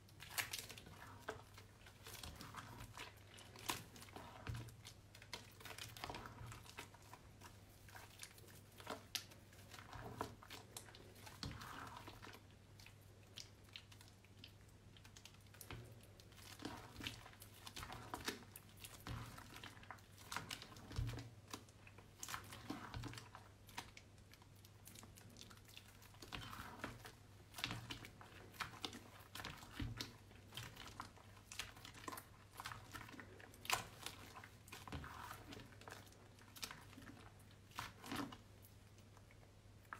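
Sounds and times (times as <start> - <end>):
wet soap squelching in hands: 0.0 - 39.9.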